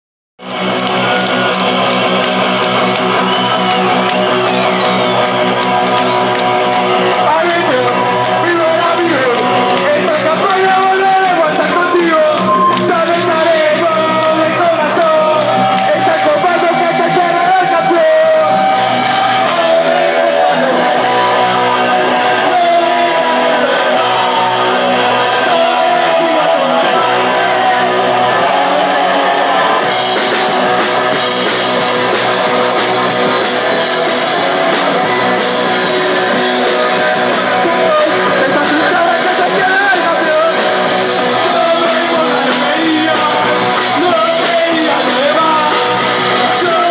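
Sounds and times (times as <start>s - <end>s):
punk rock band playing live: 0.4s - 46.9s
strummed electric guitars: 0.4s - 46.9s.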